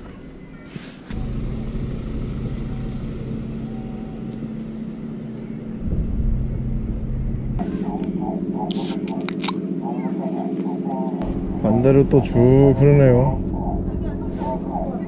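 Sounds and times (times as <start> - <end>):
engine humming and rumbling: 1.0 - 15.0.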